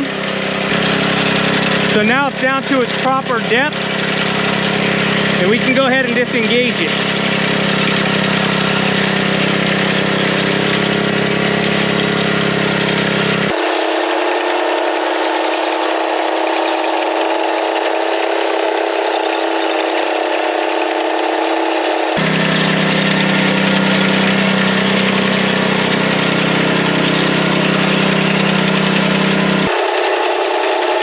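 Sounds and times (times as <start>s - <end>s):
small gasoline engine running: 0.0s - 31.0s.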